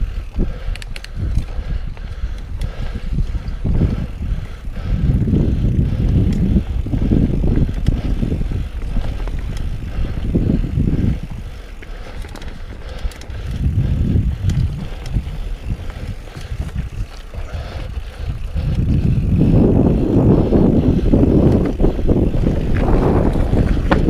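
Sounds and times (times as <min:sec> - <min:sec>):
bike clicks and rattles: 0:00.0 - 0:24.0
wind and tyre rumble: 0:00.0 - 0:24.0.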